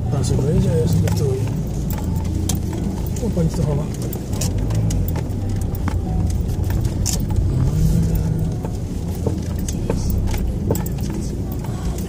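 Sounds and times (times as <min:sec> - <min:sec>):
car driving over cobblestones: 0:00.0 - 0:12.0
light clicks and rattles: 0:00.1 - 0:12.0.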